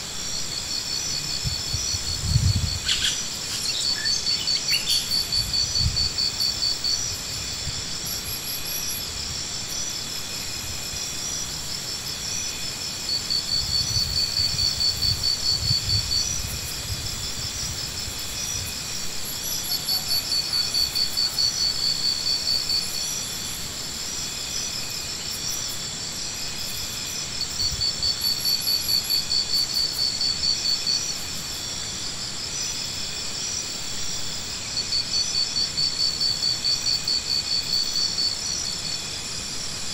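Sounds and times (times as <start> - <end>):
high-pitched insect drone: 0.0 - 39.9
insects trilling: 0.0 - 39.9.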